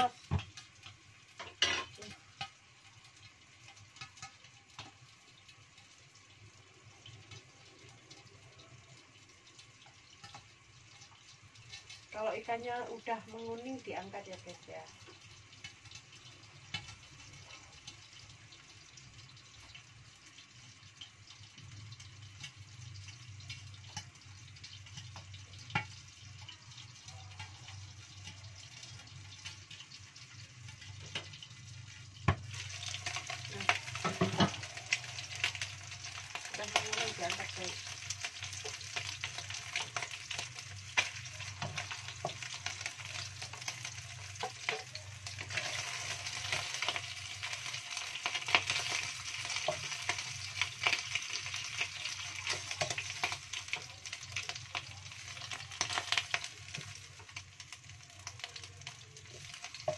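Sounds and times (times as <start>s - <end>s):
oil sizzling and popping: 0.0s - 59.9s.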